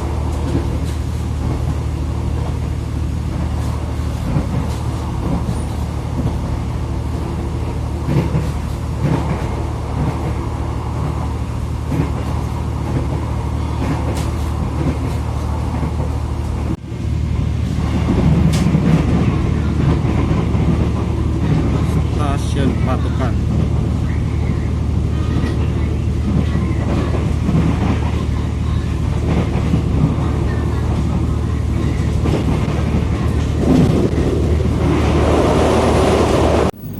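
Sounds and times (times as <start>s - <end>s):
train running hum and rumble: 0.0s - 36.9s.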